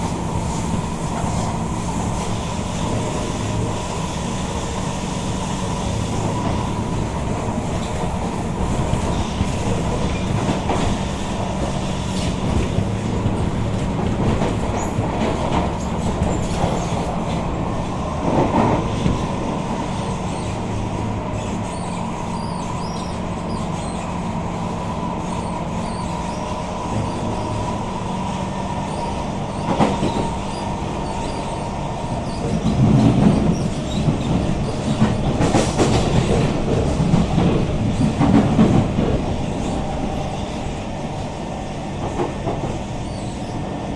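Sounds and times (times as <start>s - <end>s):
train knocks: 0.0s - 41.2s, 41.8s - 43.8s
metro train interior hum: 0.0s - 43.9s.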